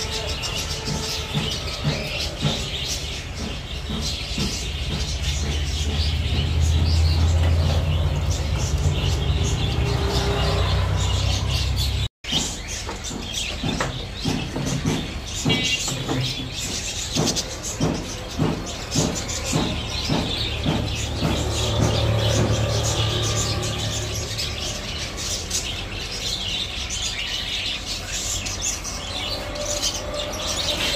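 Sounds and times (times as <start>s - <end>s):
caged birds chirping: 0.0s - 30.9s.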